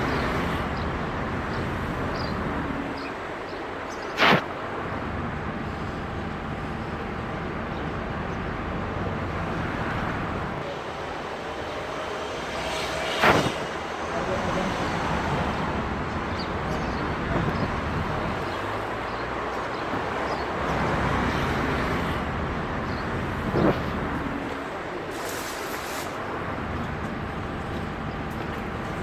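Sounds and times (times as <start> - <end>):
traffic rushing: 0.0 - 29.0.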